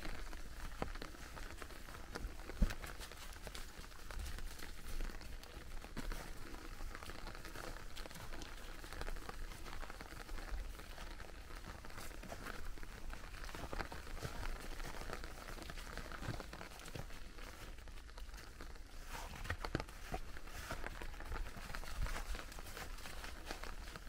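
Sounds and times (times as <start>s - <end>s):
footsteps on wet leaves: 0.0s - 24.0s
rain pattering: 0.0s - 24.0s.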